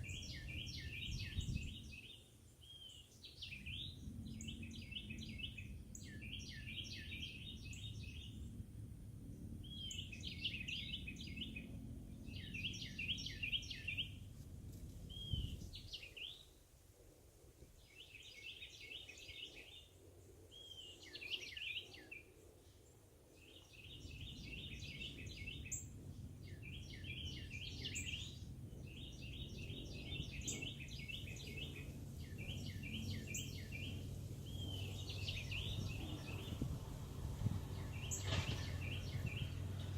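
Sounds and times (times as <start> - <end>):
songbird singing: 0.0 - 16.7, 17.4 - 39.9.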